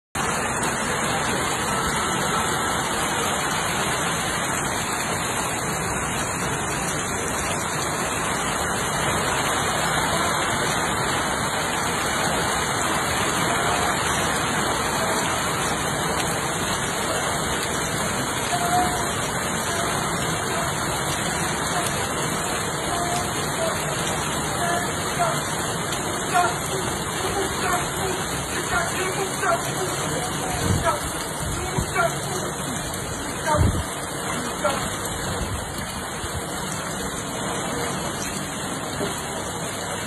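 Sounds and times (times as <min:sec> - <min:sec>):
heavy rain: 0:00.1 - 0:40.0.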